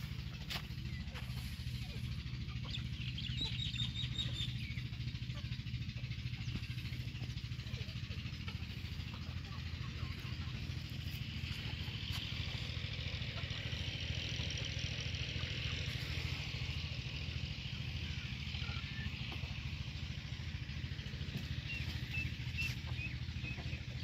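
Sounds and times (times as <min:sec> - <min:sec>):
small engine idling: 0:00.0 - 0:24.0.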